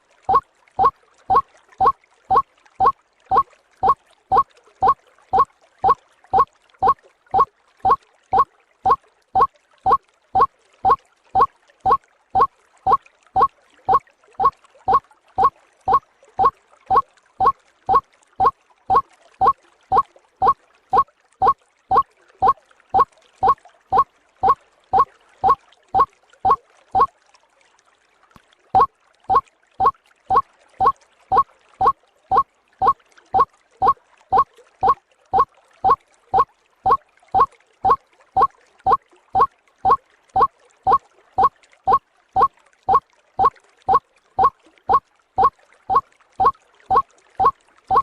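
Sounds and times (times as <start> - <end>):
waterhen call: 0.3 - 10.5, 11.4 - 20.6, 21.4 - 27.1, 28.8 - 48.0.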